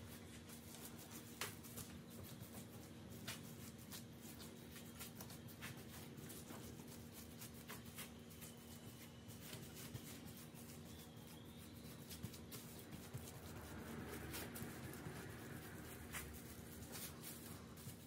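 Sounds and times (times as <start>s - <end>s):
faint steady hum: 0.0s - 18.0s
fingers patting soft dough: 0.0s - 18.0s.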